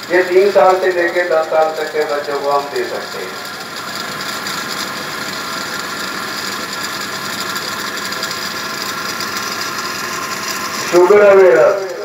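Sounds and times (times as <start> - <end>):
electric fan whirring: 0.0 - 12.0.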